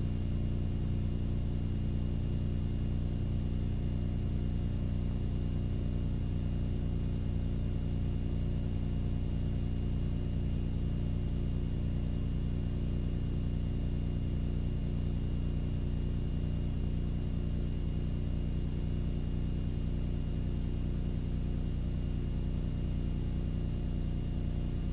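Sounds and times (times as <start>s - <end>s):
electrical hum and buzz: 0.0s - 24.9s.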